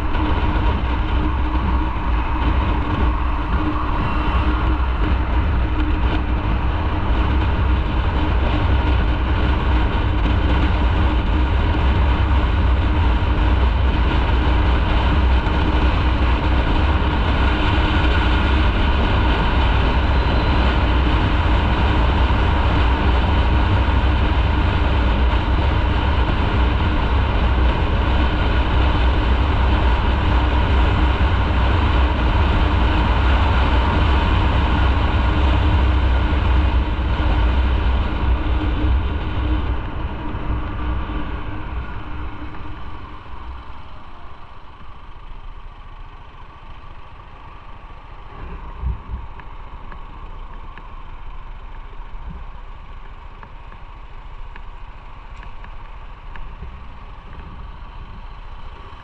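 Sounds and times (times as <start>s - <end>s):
motorcycle engine and road noise: 0.0s - 59.0s.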